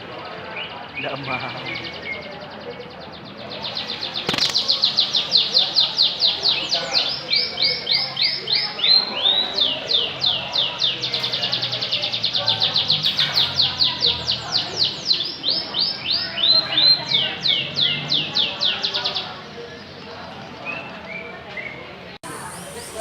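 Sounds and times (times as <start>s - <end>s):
canary singing: 0.4s - 23.0s.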